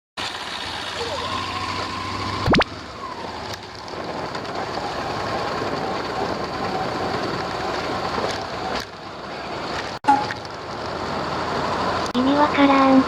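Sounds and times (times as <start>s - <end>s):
vehicle running noise: 0.2s - 13.0s.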